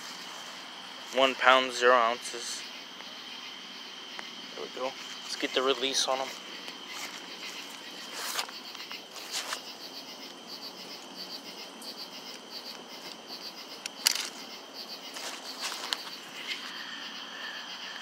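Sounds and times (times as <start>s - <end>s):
crickets and insects chirping: 0.0s - 18.0s
high pulsed insect call: 0.0s - 18.0s.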